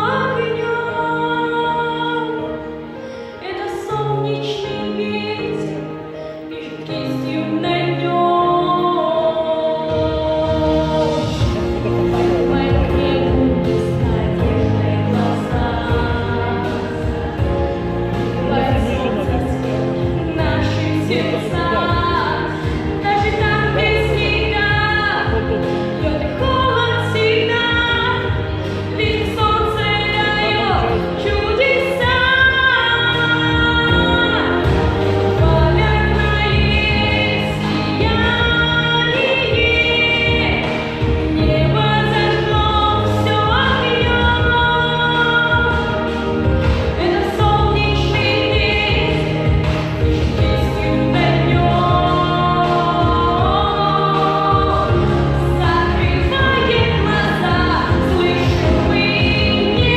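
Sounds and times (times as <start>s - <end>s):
low musical accompaniment: 0.0s - 59.9s
slow song with held sung notes: 0.0s - 59.9s.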